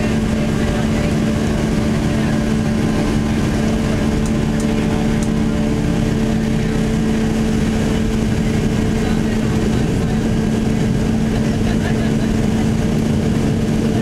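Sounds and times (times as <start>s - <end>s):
jet engines humming: 0.0s - 14.0s.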